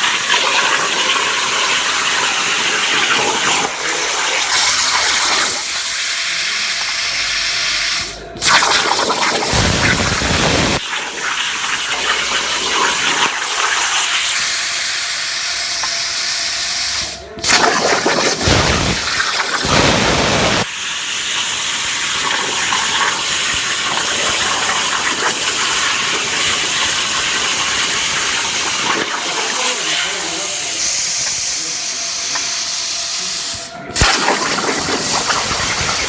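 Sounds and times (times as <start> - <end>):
metal-cutting machine hissing: 0.0 - 36.0.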